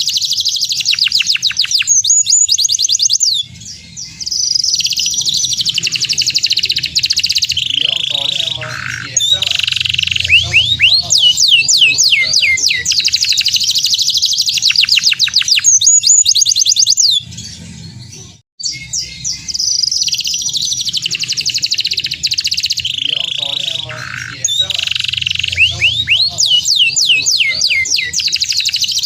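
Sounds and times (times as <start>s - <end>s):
canary singing trills: 0.0s - 29.0s.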